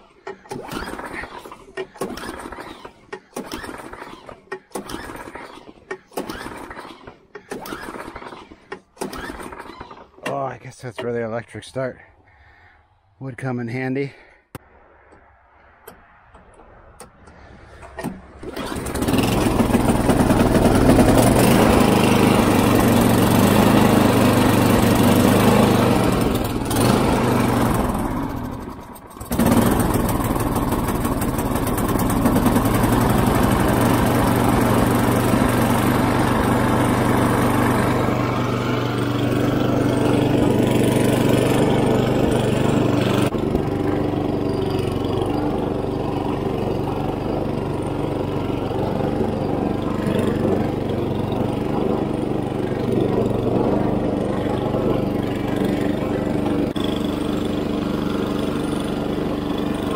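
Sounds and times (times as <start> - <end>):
small gasoline engine running: 0.0 - 10.4, 18.4 - 59.9.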